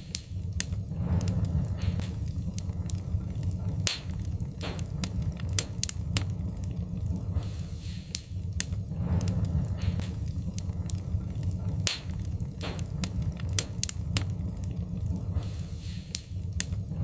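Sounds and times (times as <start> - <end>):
fire hissing puffs: 0.0 - 17.0
wood fire crackling: 0.0 - 17.0.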